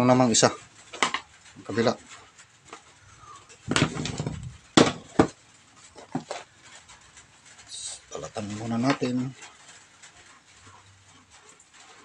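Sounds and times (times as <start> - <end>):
rustling scrape of cable: 0.0 - 12.0.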